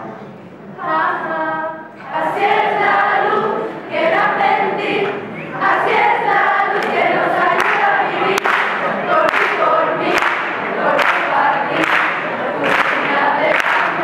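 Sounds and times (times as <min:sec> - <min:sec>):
choir singing carol: 0:00.7 - 0:14.0.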